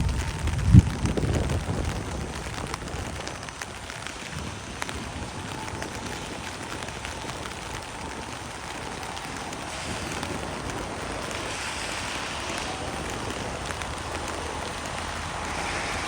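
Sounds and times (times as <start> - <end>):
raindrops ticking close by: 0.0 - 16.0
steady rain falling: 0.0 - 16.0.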